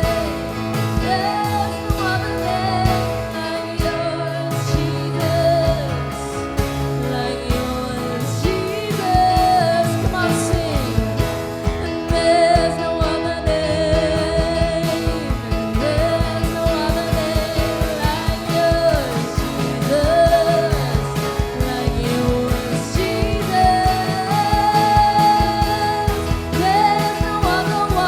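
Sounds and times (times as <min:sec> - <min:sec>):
steady drum beat: 0:00.0 - 0:28.0
worship band music: 0:00.0 - 0:28.0.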